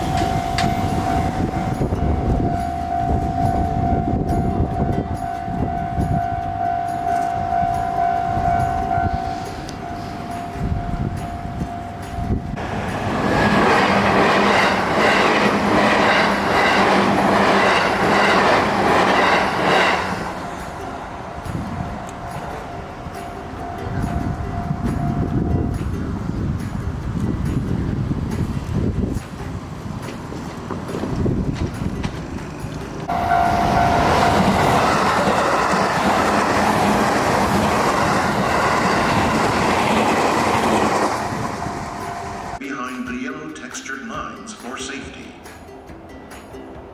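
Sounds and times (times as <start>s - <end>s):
train wheels clattering: 0.0s - 42.6s
low train hum: 0.0s - 46.9s.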